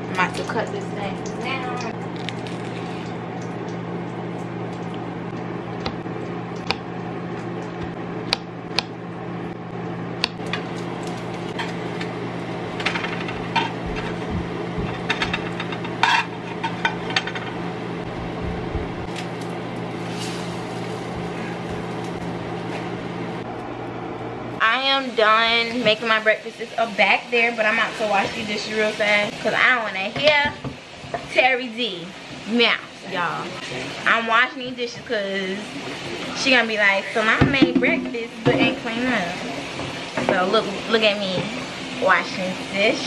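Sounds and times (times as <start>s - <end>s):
kitchen fan hum: 0.0s - 43.0s.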